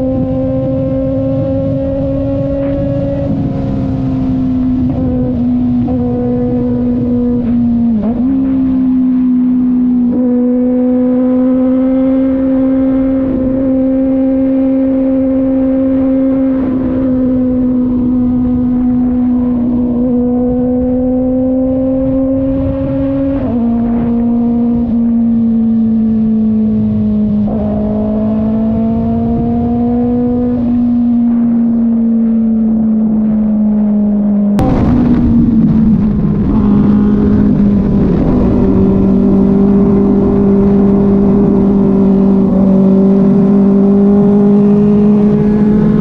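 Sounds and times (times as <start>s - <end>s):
motorcycle engine at high revs: 0.0s - 46.0s.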